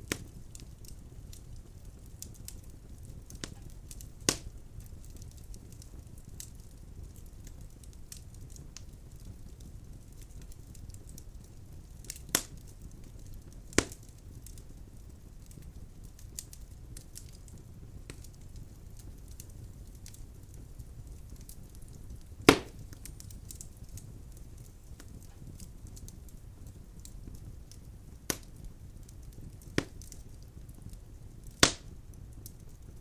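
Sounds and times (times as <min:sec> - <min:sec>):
burning logs popping: 0:00.0 - 0:33.0
fire crackling: 0:00.0 - 0:33.0
wood fire rumbling: 0:00.0 - 0:33.0.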